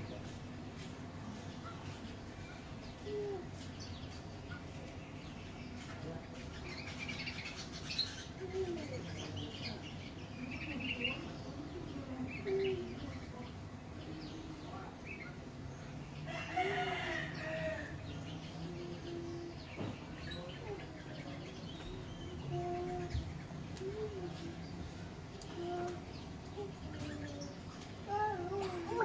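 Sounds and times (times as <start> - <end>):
bird chirps and calls: 0.0 - 29.0.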